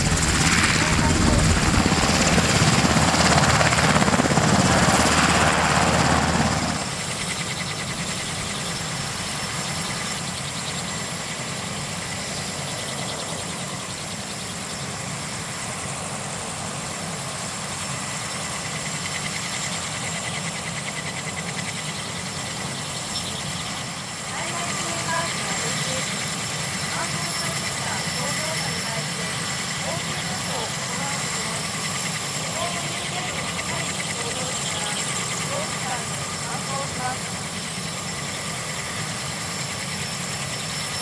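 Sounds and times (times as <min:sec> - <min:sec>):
helicopter engines and rotor: 0:00.0 - 0:41.0.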